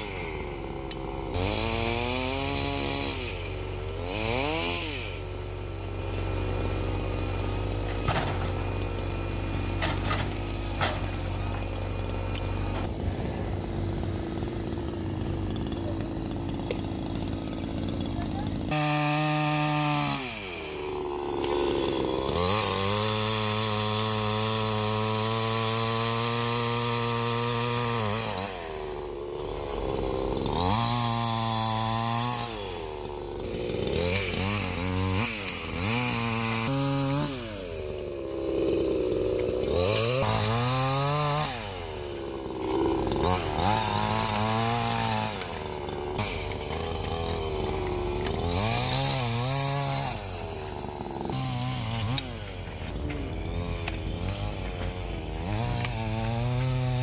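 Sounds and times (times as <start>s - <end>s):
chainsaw cutting and revving: 0.0s - 57.0s.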